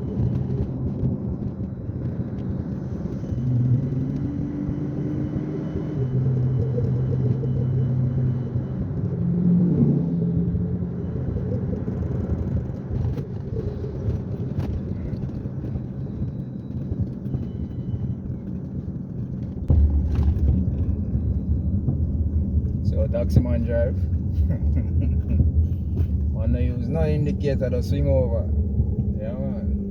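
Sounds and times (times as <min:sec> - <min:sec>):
car engine and road rumble: 0:00.0 - 0:29.9
loud low rumble: 0:00.0 - 0:29.9.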